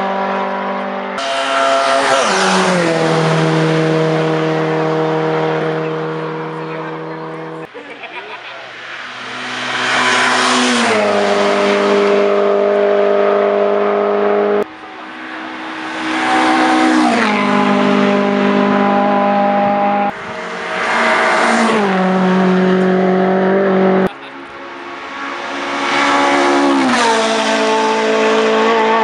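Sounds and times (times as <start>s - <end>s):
race cars passing at full throttle: 0.0s - 29.0s.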